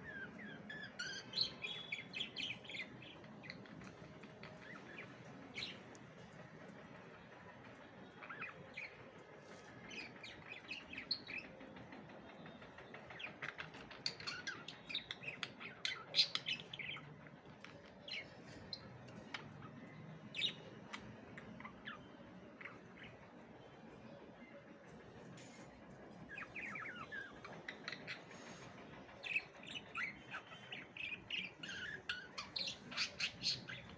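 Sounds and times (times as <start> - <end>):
budgerigars chirping and chattering: 0.0 - 6.0, 7.7 - 11.6, 12.9 - 23.3, 26.2 - 33.9.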